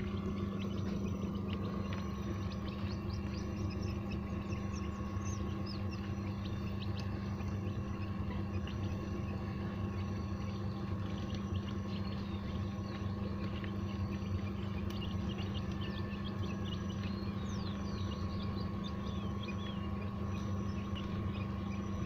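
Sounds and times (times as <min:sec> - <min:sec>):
quail chicks peeping: 0:00.0 - 0:22.0
steady low hum: 0:00.0 - 0:22.0.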